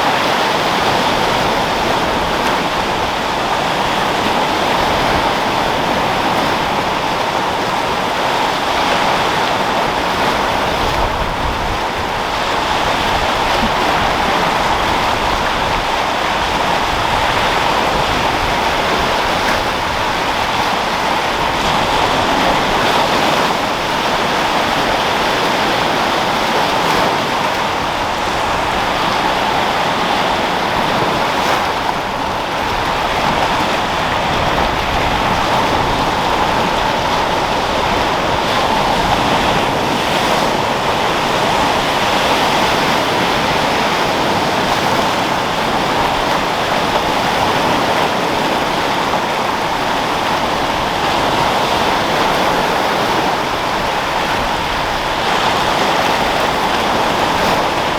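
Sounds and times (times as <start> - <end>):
sea waves: 0.0 - 57.9
wind: 0.0 - 57.9.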